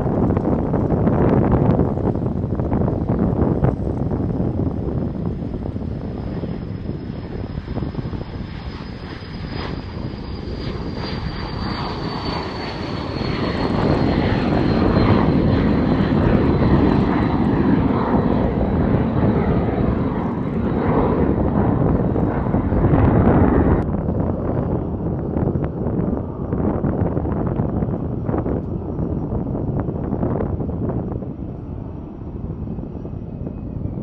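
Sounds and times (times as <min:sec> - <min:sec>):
airplane engines running: 0:00.0 - 0:34.0.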